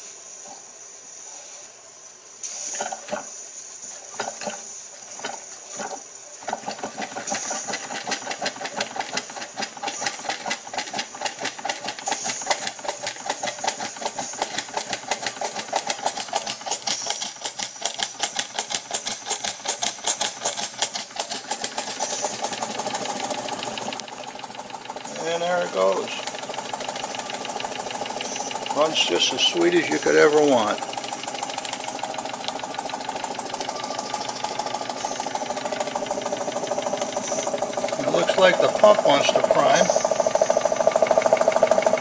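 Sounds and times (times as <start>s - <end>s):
toy steam engine chuffing: 2.5s - 42.0s.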